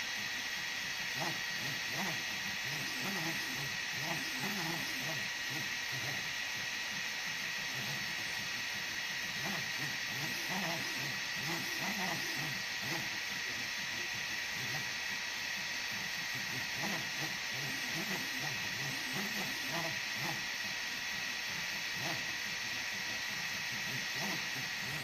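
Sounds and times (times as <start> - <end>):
fan hiss with high tone: 0.0 - 25.0
stepper motors whirring: 0.3 - 25.0.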